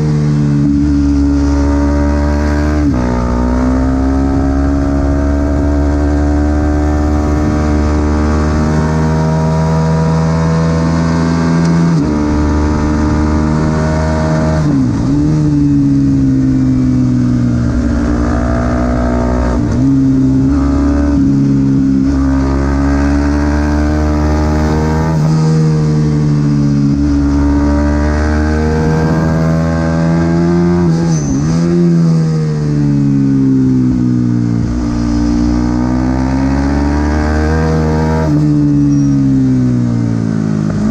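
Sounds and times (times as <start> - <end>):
race motorcycle engine revving: 0.0 - 40.9.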